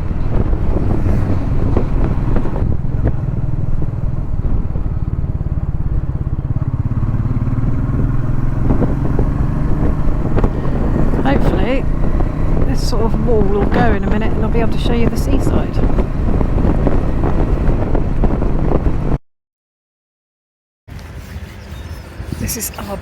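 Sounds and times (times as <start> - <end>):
motorcycle engine running: 0.0 - 19.2.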